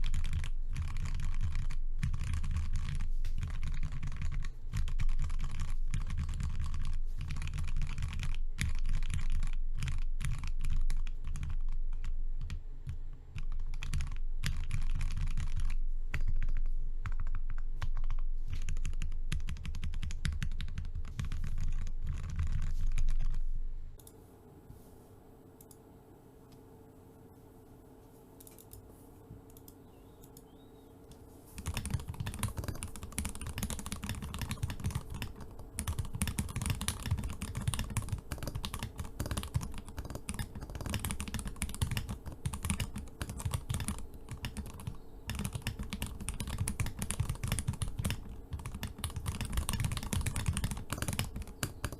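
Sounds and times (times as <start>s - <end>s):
mechanical keyboard typing: 0.0s - 12.6s, 13.4s - 23.4s, 31.6s - 51.9s
faint steady hum: 0.0s - 51.9s.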